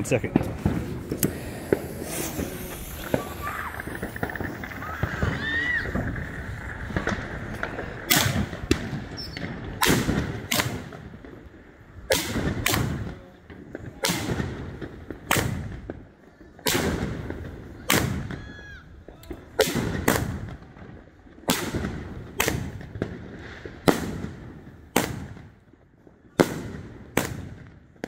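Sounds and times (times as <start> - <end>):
firework cake bangs: 0.0 - 11.4, 12.0 - 16.0, 16.6 - 20.7, 21.4 - 25.6, 26.3 - 28.0.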